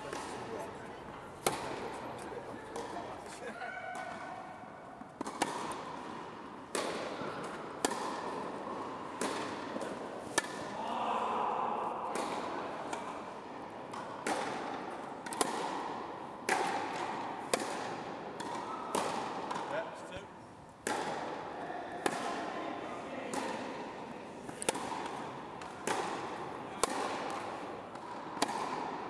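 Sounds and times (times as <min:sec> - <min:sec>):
tennis ball hit by rackets: 0:00.1 - 0:00.5, 0:01.4 - 0:10.8, 0:12.0 - 0:19.7, 0:20.8 - 0:22.6, 0:23.3 - 0:29.0
tennis ball bouncing: 0:00.1 - 0:00.6, 0:01.4 - 0:10.8, 0:12.1 - 0:19.7, 0:20.8 - 0:22.6, 0:23.3 - 0:29.0.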